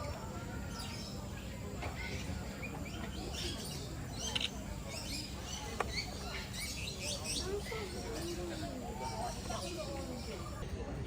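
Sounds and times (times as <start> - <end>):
birds chirping and calling: 0.0 - 10.6
low background noise: 0.0 - 11.0.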